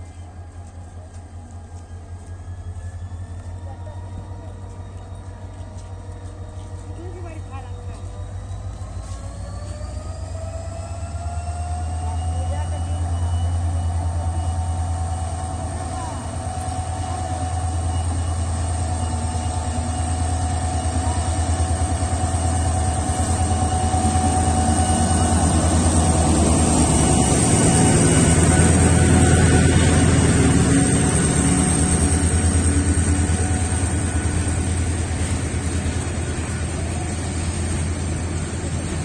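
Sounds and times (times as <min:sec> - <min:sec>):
diesel locomotive engine throb: 0:00.0 - 0:39.0
train coaches rolling past: 0:00.0 - 0:39.0.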